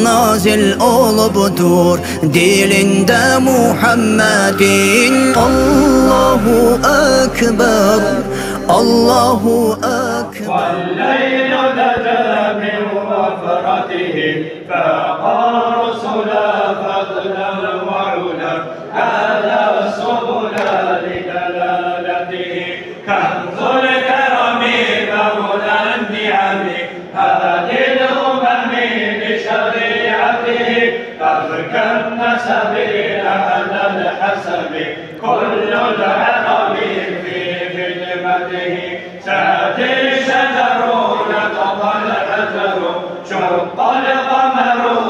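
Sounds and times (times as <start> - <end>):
men chanting a hymn: 0.0 - 45.0.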